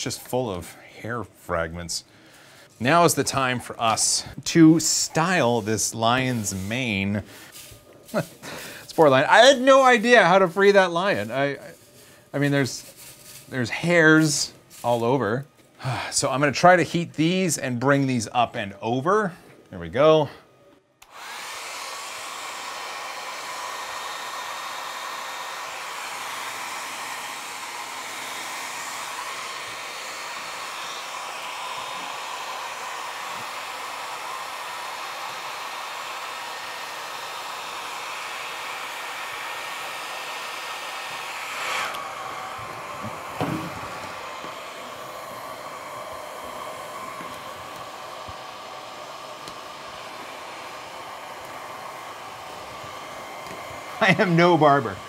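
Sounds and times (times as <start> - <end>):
hair dryer blowing: 0.0 - 18.3, 21.0 - 55.0.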